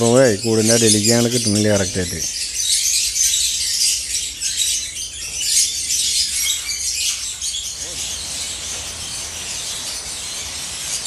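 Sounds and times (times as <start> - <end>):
lovebirds chattering: 0.0 - 11.0.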